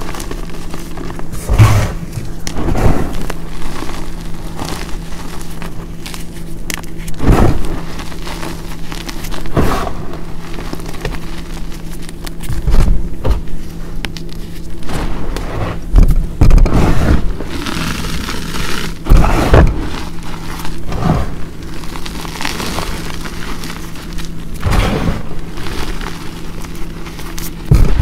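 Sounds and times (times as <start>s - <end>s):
chalk powder clumps crunching: 0.0s - 28.0s
soft powdery rustling: 0.0s - 28.0s.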